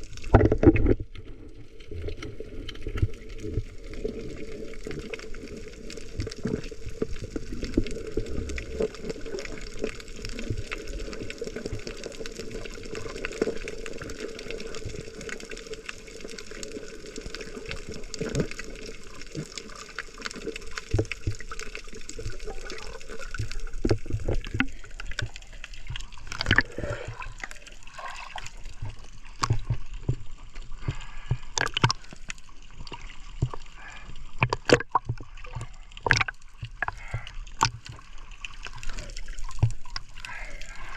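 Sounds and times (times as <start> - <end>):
water sloshing and gurgling: 0.0 - 40.9
water splashes: 0.0 - 40.9.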